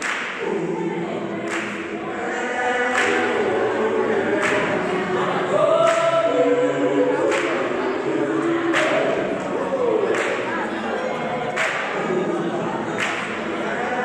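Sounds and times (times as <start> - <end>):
choir singing in harmony: 0.0 - 14.0.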